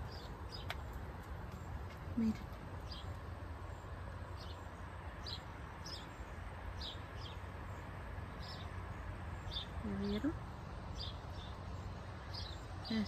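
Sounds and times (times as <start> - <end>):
small bird chirping: 0.0 - 8.7, 9.4 - 13.0.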